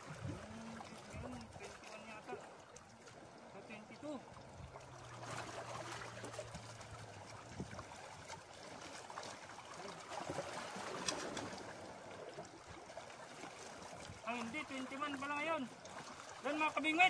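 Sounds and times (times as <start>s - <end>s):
waves lapping on rocks: 0.0s - 17.0s.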